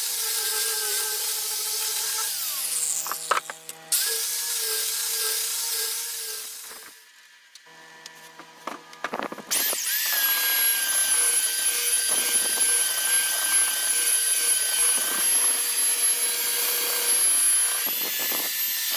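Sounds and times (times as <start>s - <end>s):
wood router motor whining: 0.0s - 18.9s.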